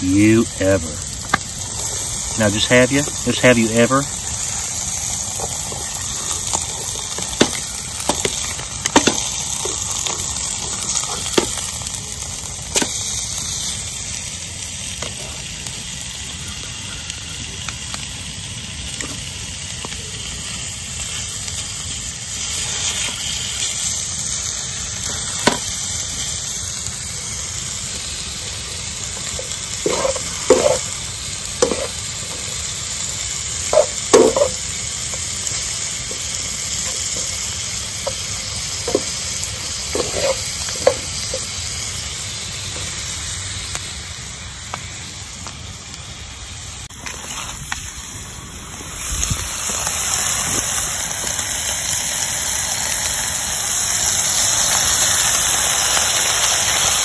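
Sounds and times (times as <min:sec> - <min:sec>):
meat sizzling in skillets: 0:00.0 - 0:57.0.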